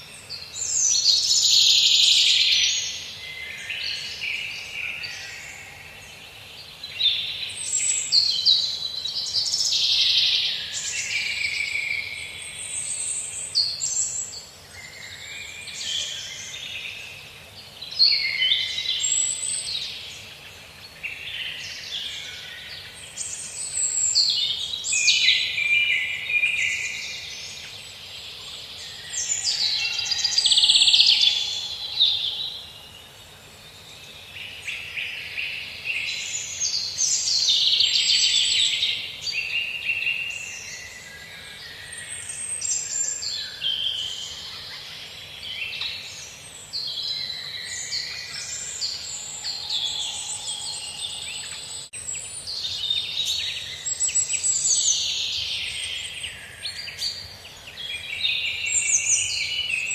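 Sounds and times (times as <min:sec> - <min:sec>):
faint background hiss: 0:00.0 - 0:59.9
songbirds singing and chirping: 0:00.0 - 0:59.9.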